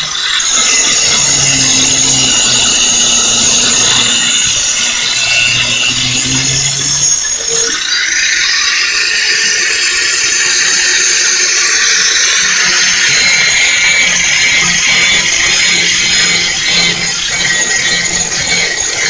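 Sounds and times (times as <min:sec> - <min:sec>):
angle grinder grinding metal: 0:00.0 - 0:19.0.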